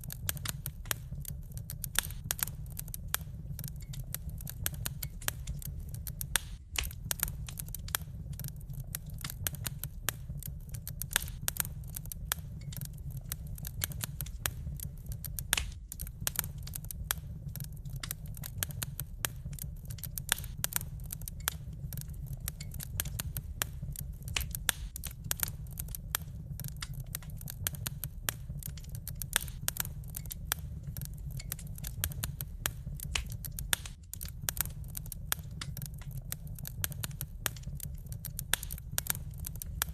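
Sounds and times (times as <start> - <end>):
low steady rumble: 0.0 - 39.9
wood fire crackling: 0.0 - 39.9.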